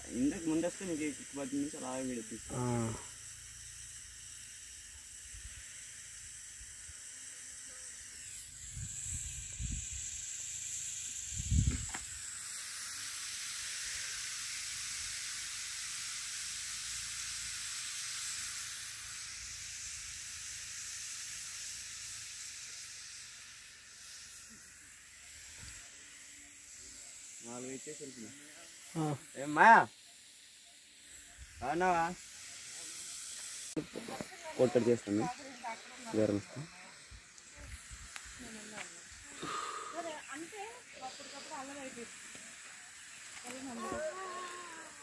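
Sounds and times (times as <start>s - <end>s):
bamboo hissing and sizzling on fire: 0.0s - 45.0s.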